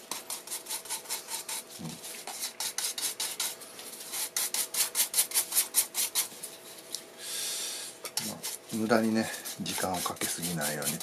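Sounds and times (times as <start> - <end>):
scratchy rubbing strokes on wood: 0.0 - 6.4, 8.2 - 11.0.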